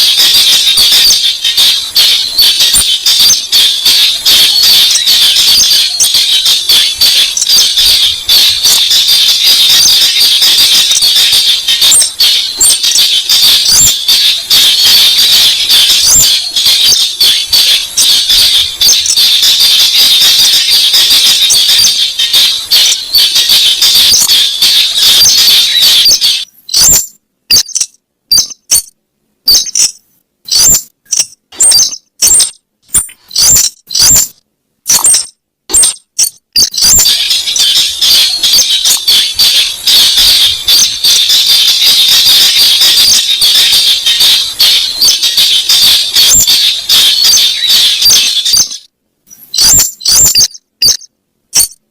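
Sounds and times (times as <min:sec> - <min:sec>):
recorded bird call rattling: 0:00.0 - 0:51.8.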